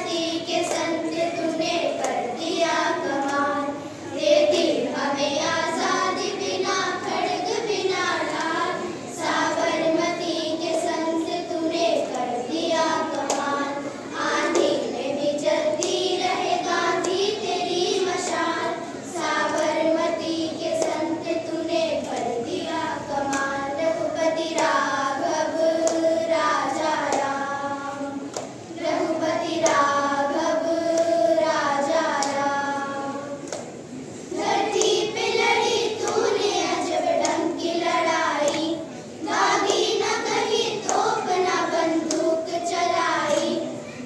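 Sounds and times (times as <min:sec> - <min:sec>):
children singing in unison: 0:00.0 - 0:44.0.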